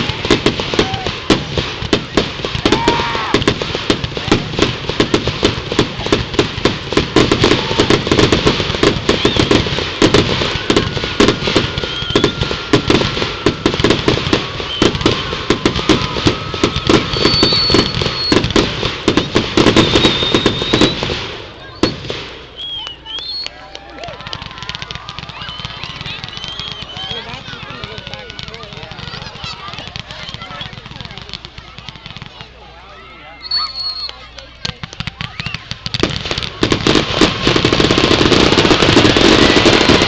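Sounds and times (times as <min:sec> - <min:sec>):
fireworks popping and crackling: 0:00.0 - 0:32.7, 0:33.5 - 0:40.0.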